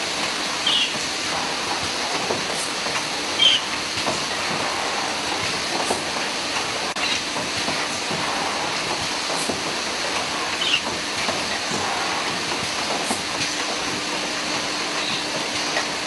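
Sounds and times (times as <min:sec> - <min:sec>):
packaging machine hissing and clattering: 0:00.0 - 0:16.0.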